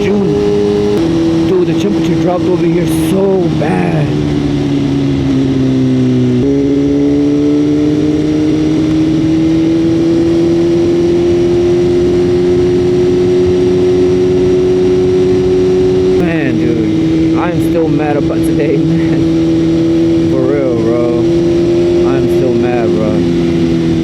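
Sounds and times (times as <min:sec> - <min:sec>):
motorcycle engine running: 0:00.0 - 0:24.0
wind noise: 0:00.0 - 0:24.0.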